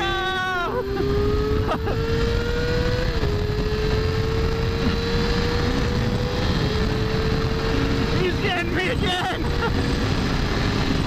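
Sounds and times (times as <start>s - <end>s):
motorcycle engine accelerating: 0.0s - 11.0s
wind rush: 0.0s - 11.0s.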